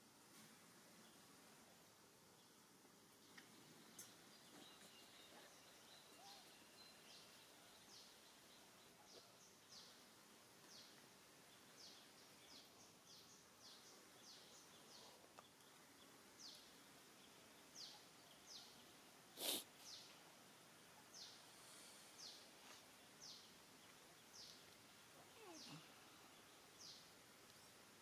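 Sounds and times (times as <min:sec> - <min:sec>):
birds chirping: 0:02.2 - 0:28.0.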